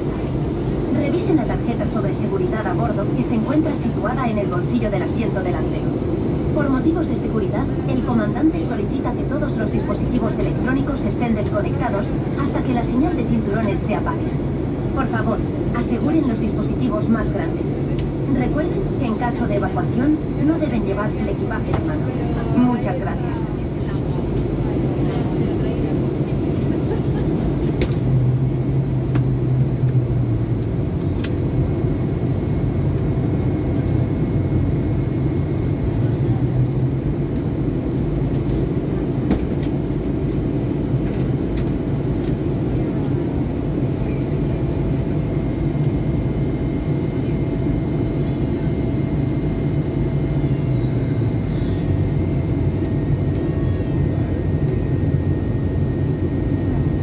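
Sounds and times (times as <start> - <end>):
faint steady engine tones: 0.0 - 57.0
jet airliner cabin rumble: 0.0 - 57.0.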